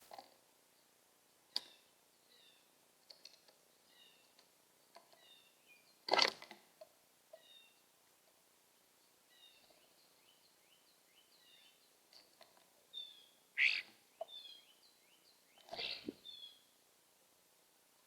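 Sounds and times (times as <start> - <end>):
birds chirping faintly: 0.1 - 6.2, 6.8 - 16.8.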